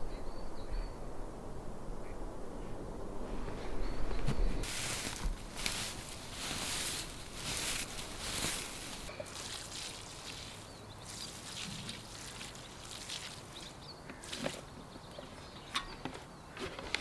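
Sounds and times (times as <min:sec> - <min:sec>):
rustling outdoors: 0:00.0 - 0:17.0.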